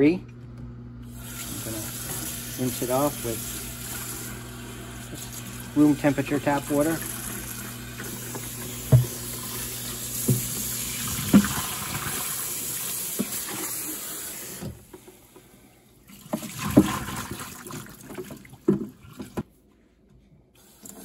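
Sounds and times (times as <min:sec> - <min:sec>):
tap water running into sink: 0:01.1 - 0:19.4.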